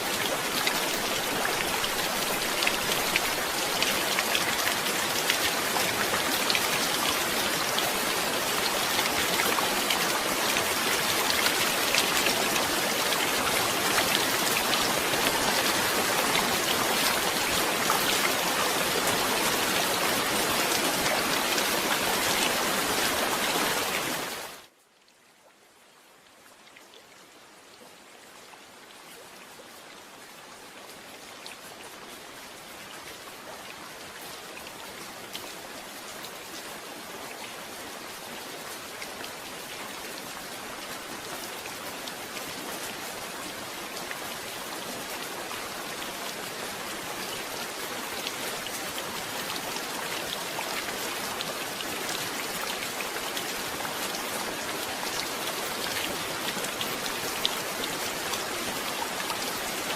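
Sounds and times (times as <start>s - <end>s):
rain drops striking a surface: 0.0s - 59.9s.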